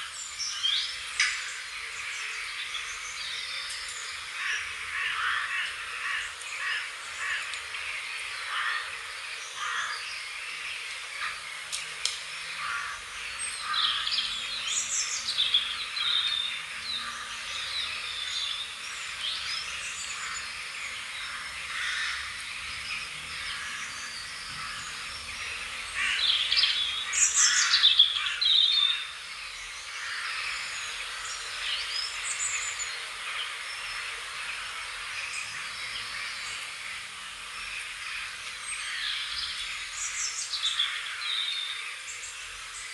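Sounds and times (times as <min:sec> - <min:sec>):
birds chirping and singing: 0:00.0 - 0:42.9.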